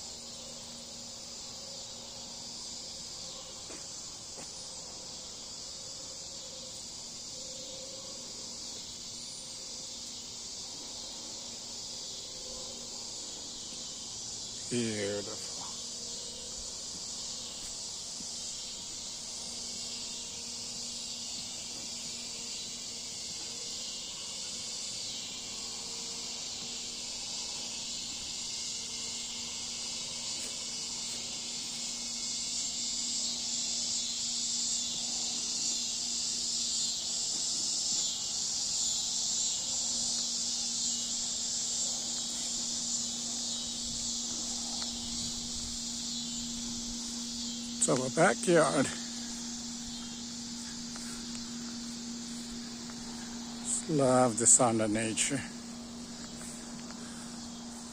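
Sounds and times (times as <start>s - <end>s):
cicadas buzzing: 0.0s - 57.9s
faint low hum: 0.0s - 57.9s.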